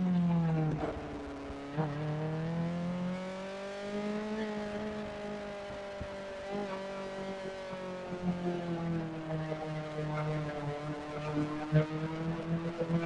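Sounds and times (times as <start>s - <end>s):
motorcycle engine running: 0.1s - 13.0s.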